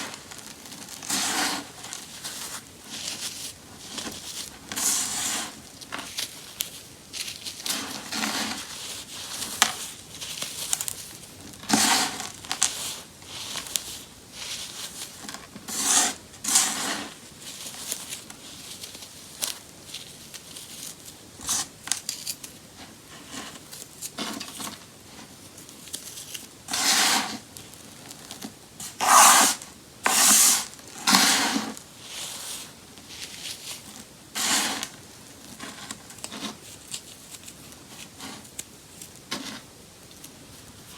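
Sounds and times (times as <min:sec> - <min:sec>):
baking soda crumbling: 0:00.0 - 0:40.9.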